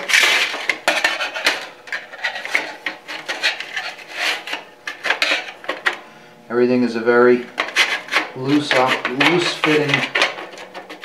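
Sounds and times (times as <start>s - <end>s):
sheet metal scraping and clicking: 0.0s - 6.0s, 7.5s - 11.0s.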